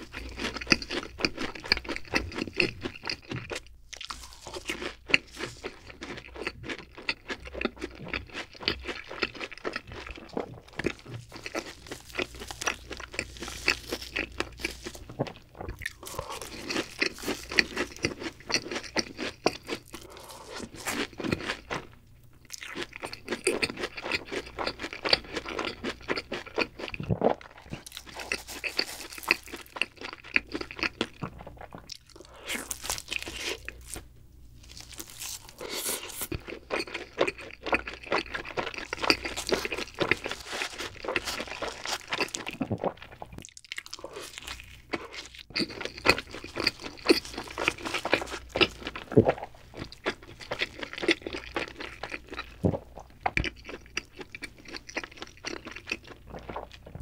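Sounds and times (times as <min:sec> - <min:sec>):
crunchy wet chewing: 0:00.0 - 0:57.0.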